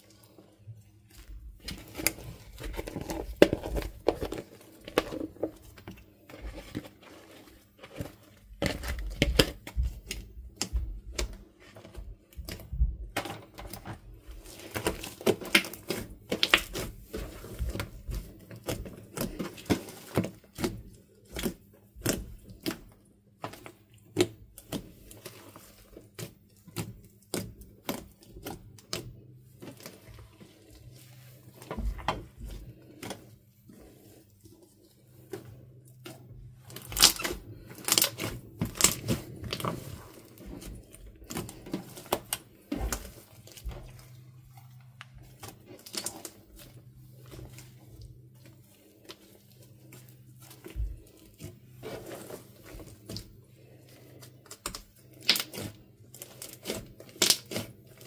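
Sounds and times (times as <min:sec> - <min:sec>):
slime squelching and popping: 0:07.9 - 0:58.0.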